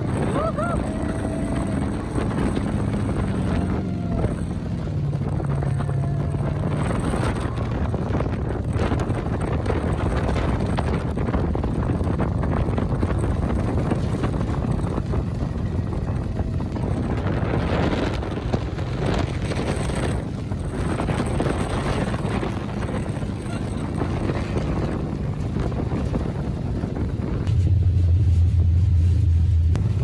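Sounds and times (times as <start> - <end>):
dune buggy engine running: 0.0 - 30.0
wind buffeting microphone: 0.0 - 30.0.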